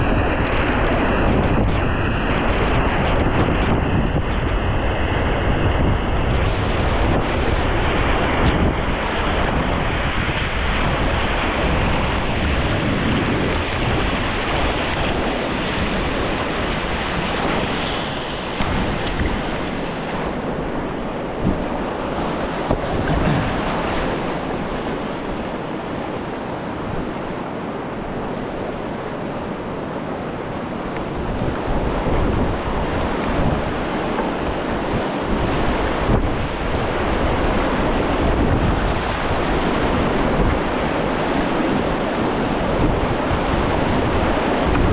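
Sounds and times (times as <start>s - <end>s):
wind buffeting microphone: 0.0s - 44.9s
whitewater rushing: 6.1s - 44.9s.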